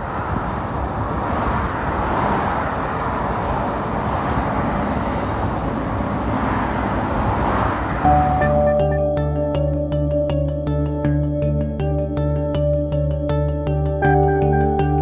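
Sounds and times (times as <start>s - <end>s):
road and tyre noise: 0.0s - 15.0s.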